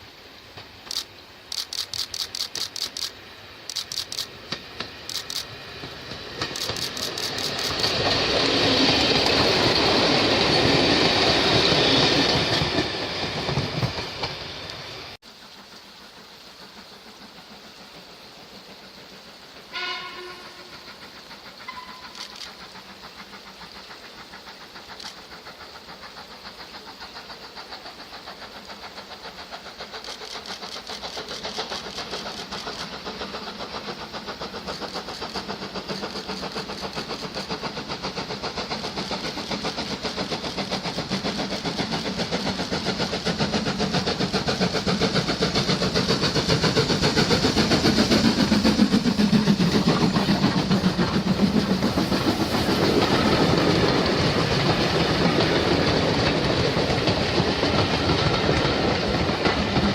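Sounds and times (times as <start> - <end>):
steam locomotive exhaust beating: 0.0 - 59.9.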